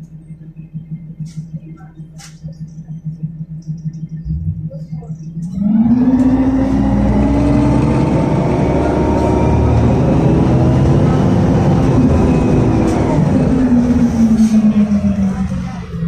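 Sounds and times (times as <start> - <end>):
bus engine accelerating: 0.0 - 16.0.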